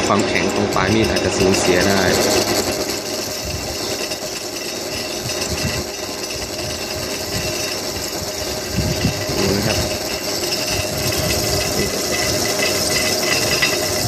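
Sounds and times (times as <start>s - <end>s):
drill press drilling metal: 0.0s - 14.0s.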